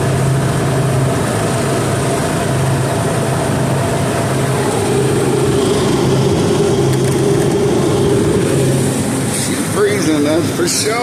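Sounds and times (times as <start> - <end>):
refrigeration unit droning: 0.0 - 11.0.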